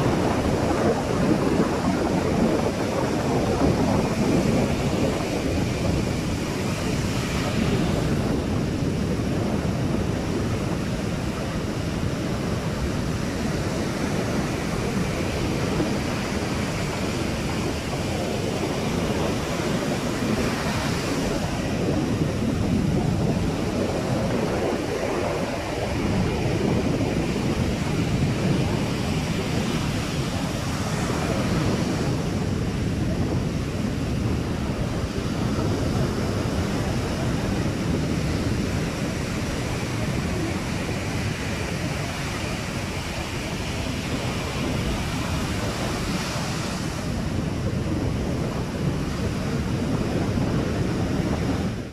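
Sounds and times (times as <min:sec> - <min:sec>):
ocean surf on sandy beach: 0:00.0 - 0:51.9
wind buffeting microphone: 0:00.0 - 0:51.9.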